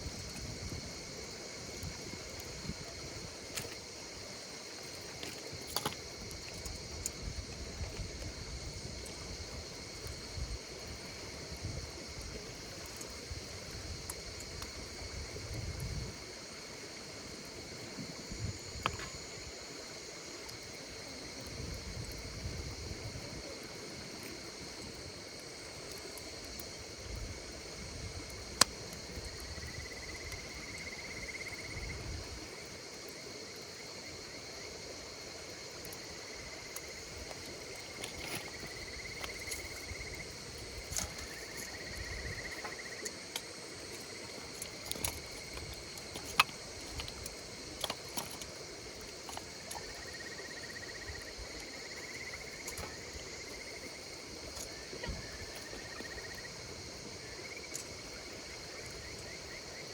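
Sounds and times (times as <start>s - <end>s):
campfire pops and crackles: 0.0s - 19.6s, 20.3s - 56.5s
insects chorus: 0.0s - 59.9s.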